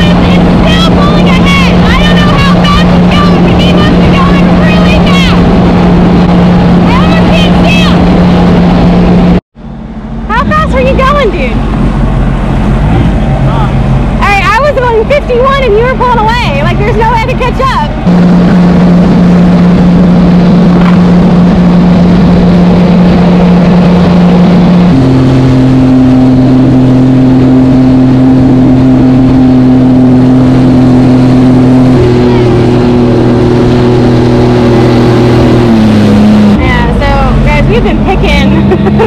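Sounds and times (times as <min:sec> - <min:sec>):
rushing water: 0:00.0 - 0:09.4, 0:10.0 - 0:39.0
jet ski engine drone: 0:00.0 - 0:39.0
wind noise: 0:00.0 - 0:39.0.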